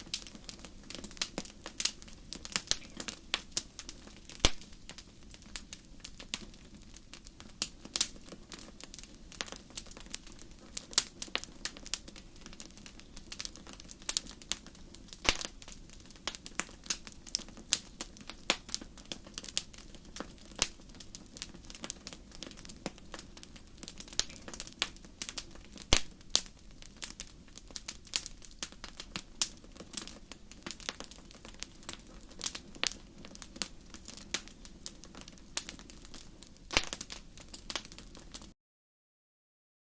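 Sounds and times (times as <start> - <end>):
low rumble of flames: 0.0 - 38.5
wood fire crackling and popping: 0.0 - 38.6.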